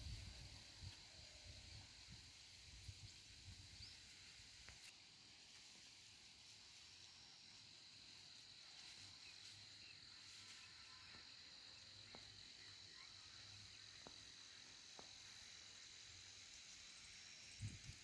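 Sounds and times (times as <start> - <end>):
insect chorus: 0.0 - 18.0.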